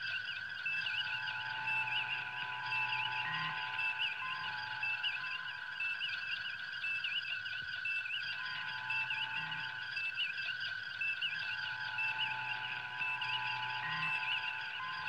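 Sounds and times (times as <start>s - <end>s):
steady high electronic tones: 0.0s - 15.0s
warbling electronic chirps: 0.0s - 15.0s.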